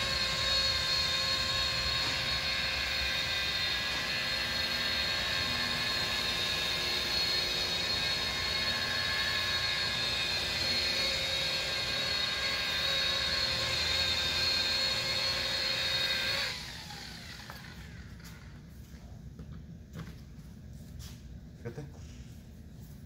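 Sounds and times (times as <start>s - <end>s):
electric polisher whining: 0.0s - 18.6s.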